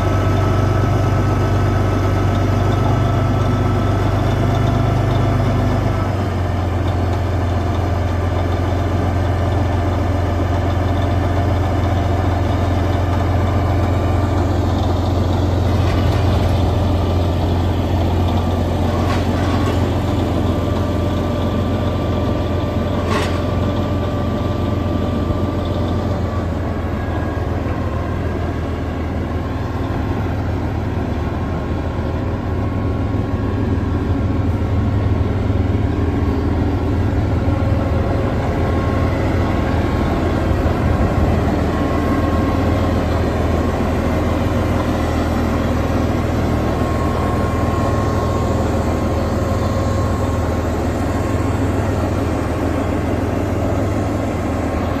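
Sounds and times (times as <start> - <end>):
bulldozer diesel engine idling: 0.0 - 55.0.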